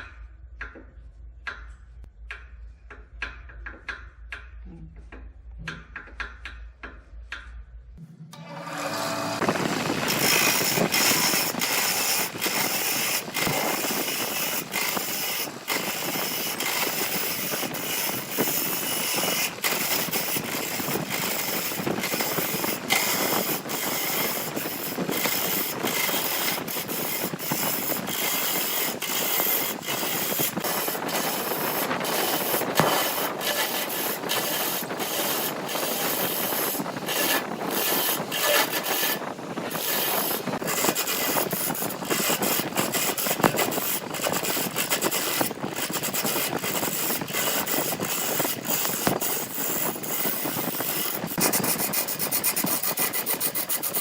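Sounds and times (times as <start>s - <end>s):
wood lathe tool cutting wood: 8.4s - 54.0s.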